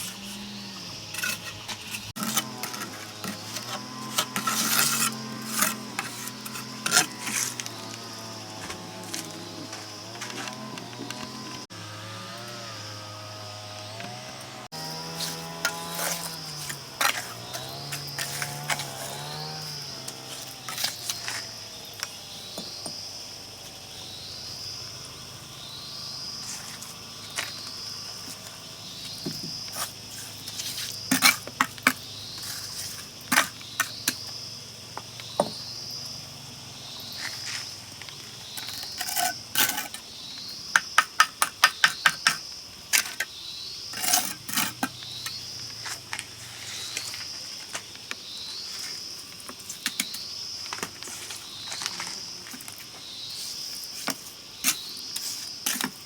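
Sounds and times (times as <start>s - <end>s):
insects calling: 0.0s - 56.0s.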